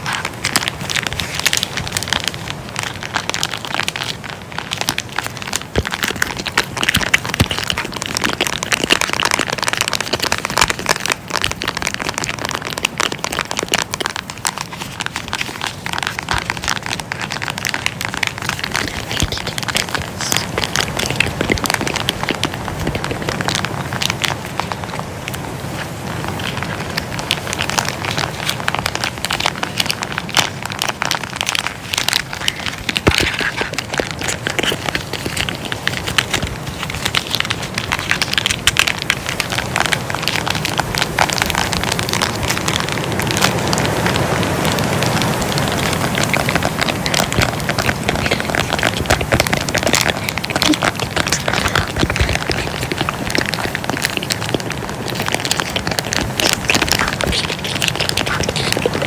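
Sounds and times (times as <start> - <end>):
close crinkling crackles: 0.0 - 59.0.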